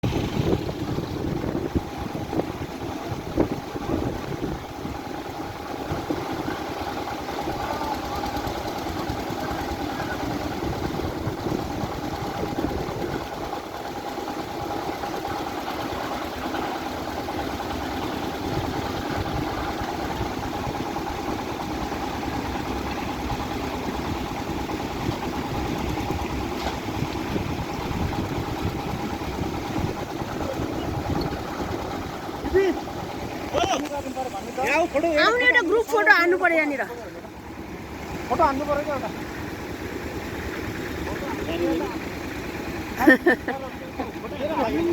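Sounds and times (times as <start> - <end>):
engine humming steadily: 0.0 - 44.9.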